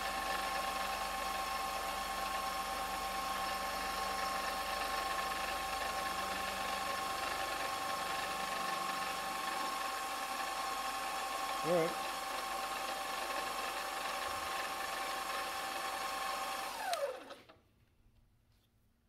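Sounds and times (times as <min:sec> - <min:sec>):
milling machine cutting plastic: 0:02.0 - 0:17.4.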